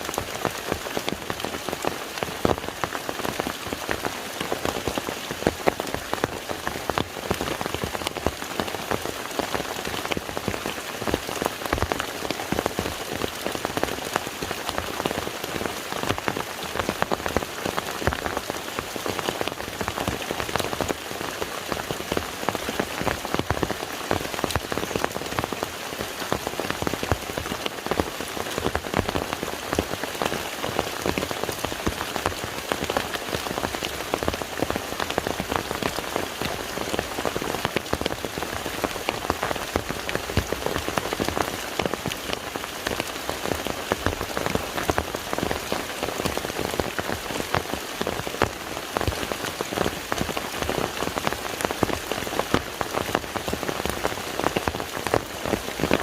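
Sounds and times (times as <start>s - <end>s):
rain falling on a lake: 0.0s - 56.0s.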